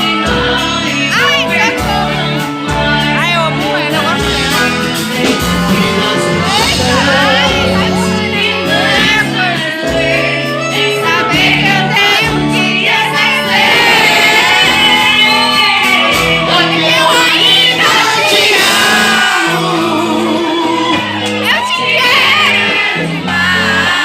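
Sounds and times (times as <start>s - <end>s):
bass line: 0.0s - 24.0s
live band music: 0.0s - 24.0s
person singing: 0.0s - 24.0s.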